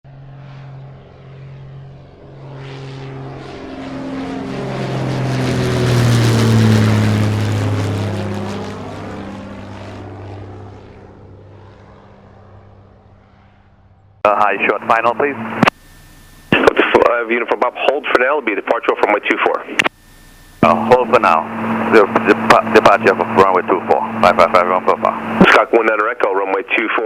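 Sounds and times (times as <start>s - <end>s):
propeller airplane passing: 0.1s - 27.0s.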